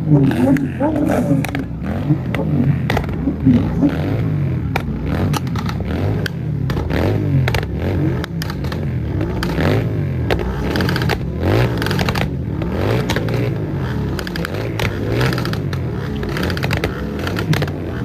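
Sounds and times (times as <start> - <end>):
vehicle engines running: 0.0 - 18.0
clicks and clatter: 0.4 - 3.3, 4.7 - 18.0.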